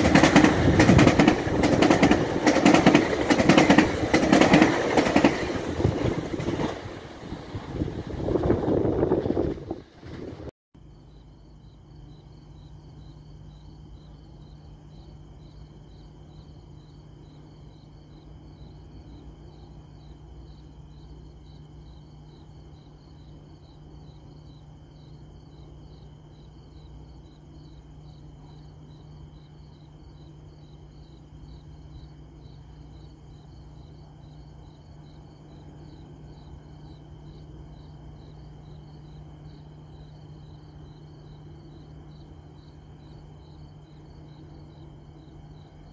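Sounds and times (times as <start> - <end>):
constant low hum: 0.0 - 45.9
crickets chirping: 0.0 - 45.9.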